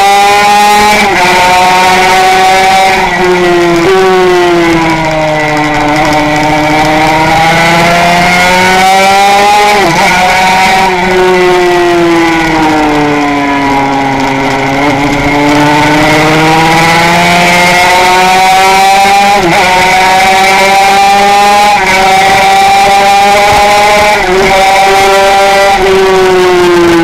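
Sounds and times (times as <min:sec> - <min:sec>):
two-stroke racing engine high revs: 0:00.0 - 0:27.0.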